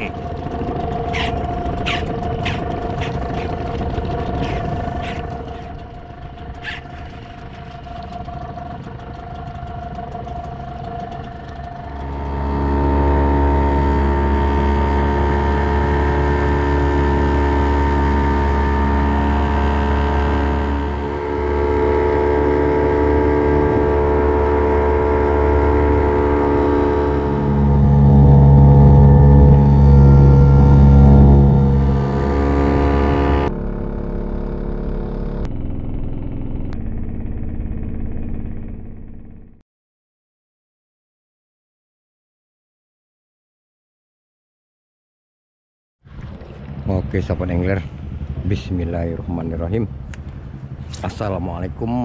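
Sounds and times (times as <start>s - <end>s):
boat engine running: 0.0s - 39.6s, 46.0s - 52.0s.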